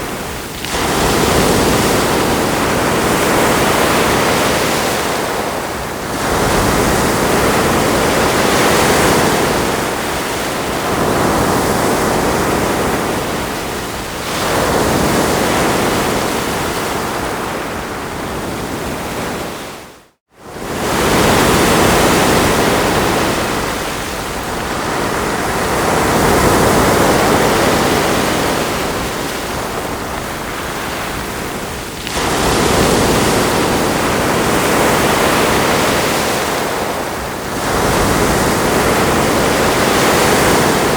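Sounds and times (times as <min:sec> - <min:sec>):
ocean waves washing onto shore: 0:00.0 - 0:40.9.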